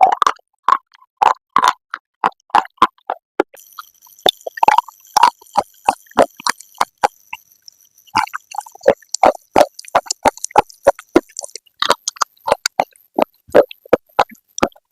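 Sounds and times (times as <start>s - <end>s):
clay pot pieces crunching in mouth: 0.0s - 3.6s, 4.2s - 7.2s, 8.2s - 14.9s.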